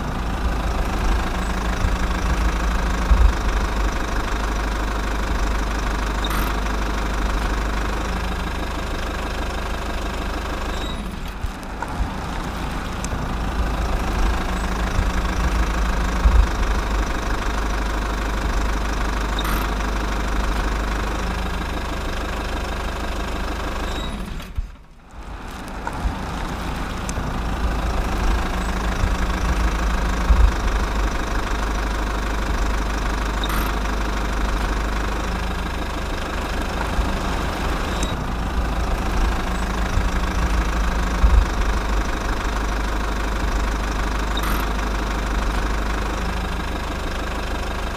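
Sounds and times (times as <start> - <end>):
car engine running: 0.0 - 47.9
road and tyre noise: 0.0 - 47.9.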